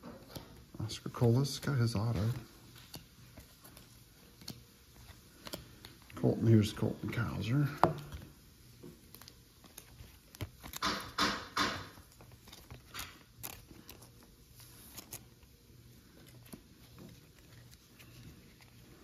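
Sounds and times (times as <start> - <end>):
cards sliding and shuffling: 0.2 - 19.0
plastic crinkling: 2.0 - 19.0.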